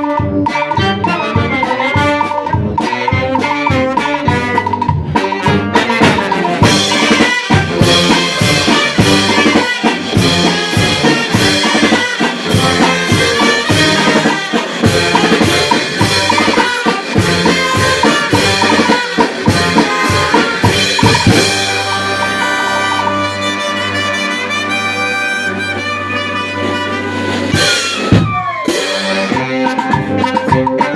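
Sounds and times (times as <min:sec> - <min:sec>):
bass drum and cymbal beat: 0:00.0 - 0:23.4, 0:26.5 - 0:30.9
brass band playing: 0:00.0 - 0:30.9.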